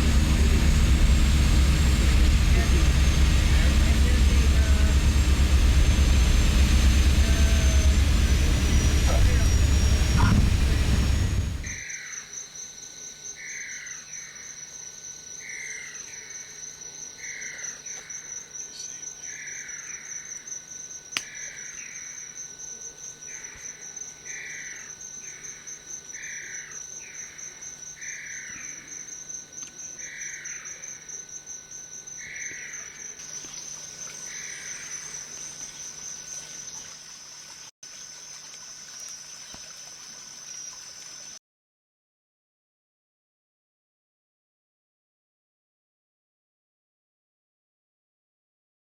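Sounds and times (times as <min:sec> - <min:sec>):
high insect trill: 0:00.0 - 0:41.4.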